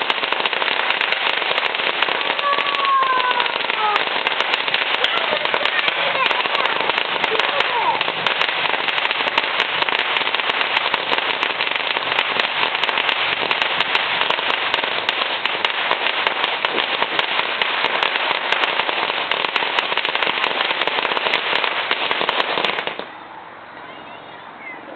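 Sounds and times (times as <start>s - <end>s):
fireworks crackling pops: 0.0s - 23.2s.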